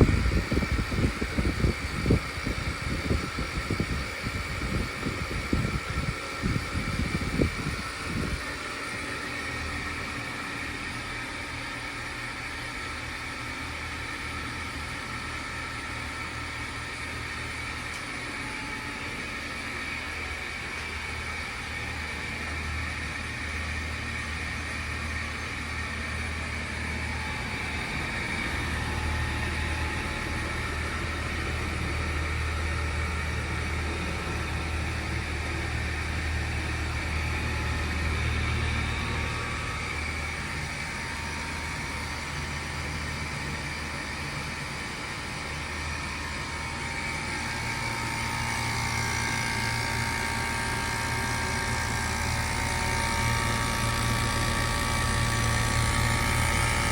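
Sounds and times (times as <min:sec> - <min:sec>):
compressor hum: 0:00.0 - 0:56.9
fan noise: 0:00.0 - 0:56.9.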